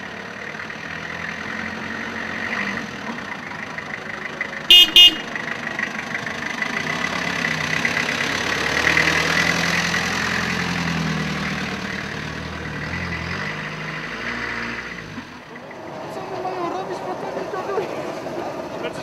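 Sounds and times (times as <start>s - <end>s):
van engine pulling away: 0.0s - 19.0s.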